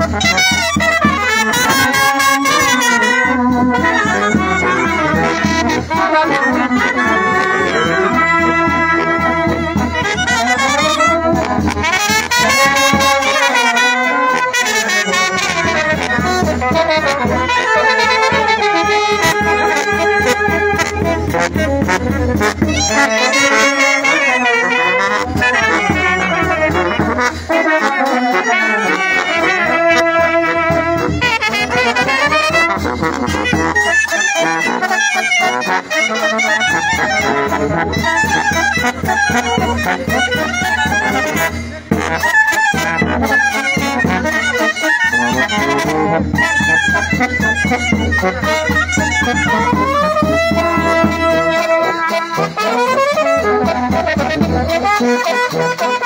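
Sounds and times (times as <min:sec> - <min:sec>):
brass band playing folk tune: 0:00.0 - 0:56.0
low bass horn part: 0:00.0 - 0:56.0.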